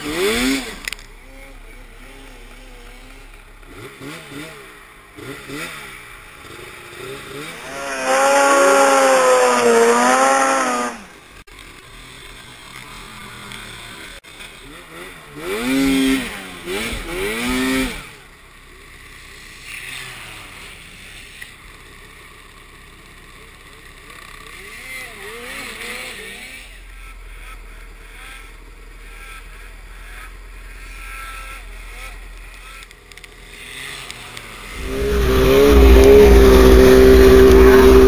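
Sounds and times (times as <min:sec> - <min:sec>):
snowmobile engines revving: 0:00.0 - 0:21.5, 0:24.0 - 0:38.0.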